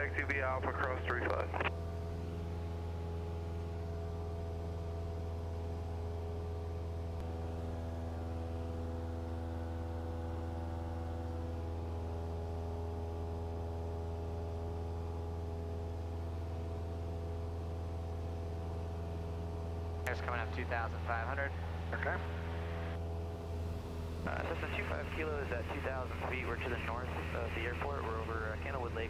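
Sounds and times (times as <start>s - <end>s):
propeller plane engine droning: 0.0s - 29.0s.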